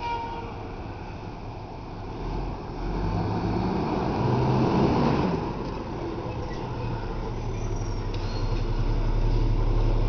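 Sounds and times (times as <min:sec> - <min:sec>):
diesel truck engine accelerating: 0:00.7 - 0:10.0.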